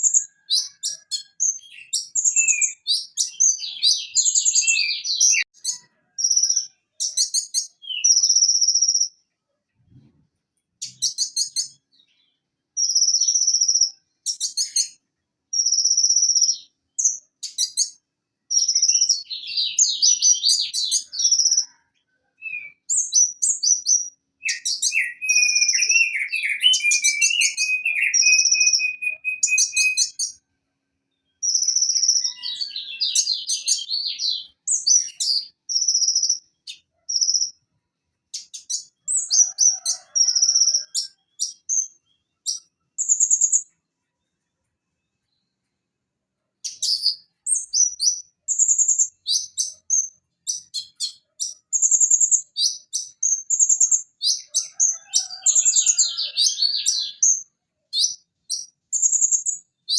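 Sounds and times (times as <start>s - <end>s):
low steady bird trill: 0.0s - 59.9s.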